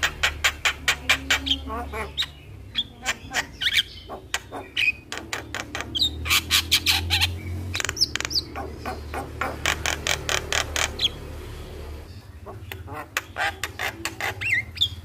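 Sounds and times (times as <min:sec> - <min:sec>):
bird chattering song: 0:00.0 - 0:15.0.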